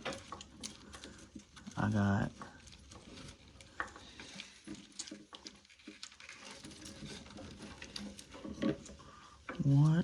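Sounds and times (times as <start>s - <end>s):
hands clicking and rustling parts: 0.0s - 10.0s.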